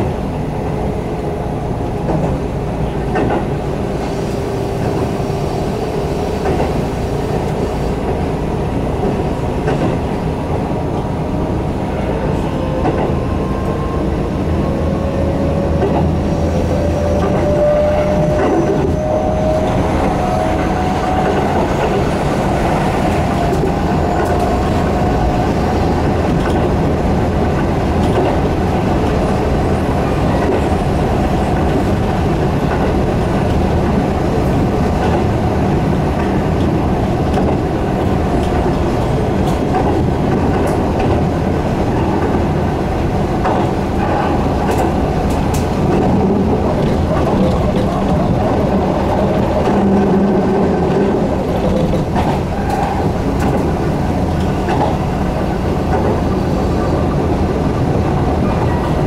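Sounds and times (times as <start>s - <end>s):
train wheel and rail rumble: 0.0s - 59.0s
track knocks: 2.0s - 3.6s, 6.4s - 10.7s, 12.4s - 14.0s, 14.6s - 29.3s, 30.3s - 59.0s.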